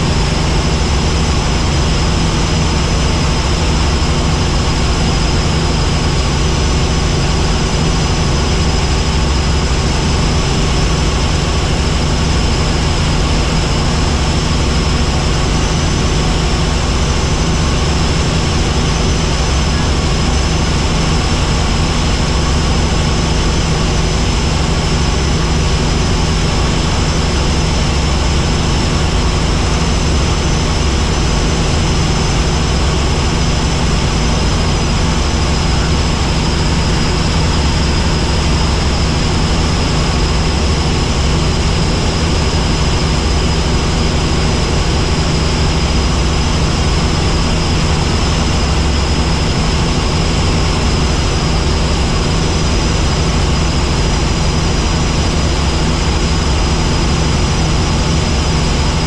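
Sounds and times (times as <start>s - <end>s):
helicopter rotor and turbine drone: 0.0s - 59.0s
high turbine whine: 0.0s - 59.0s.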